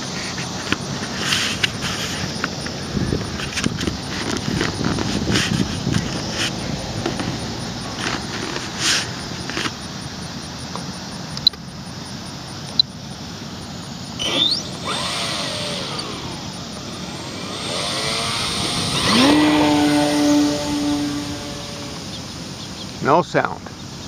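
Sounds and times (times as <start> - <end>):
electric motor and propeller whine: 0.0 - 23.0.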